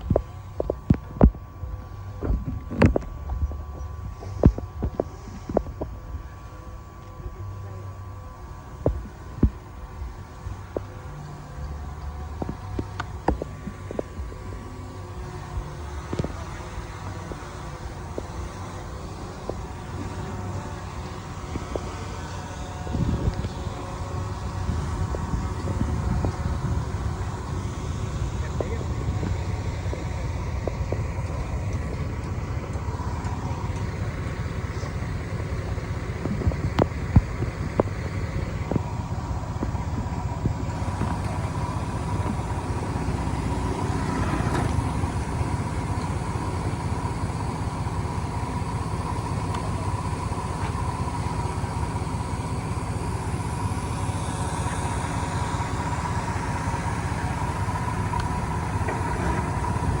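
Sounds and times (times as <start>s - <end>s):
heavy diesel machinery rumbling: 0.0s - 60.0s
steady high whine: 0.0s - 60.0s.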